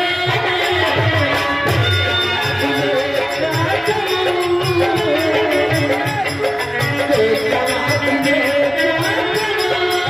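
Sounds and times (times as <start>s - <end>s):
hand drum beat: 0.0s - 10.0s.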